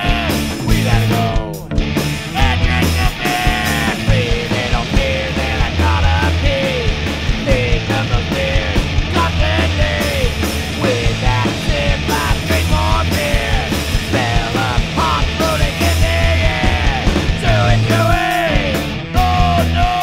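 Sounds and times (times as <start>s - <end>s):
punk rock song: 0.0s - 20.0s.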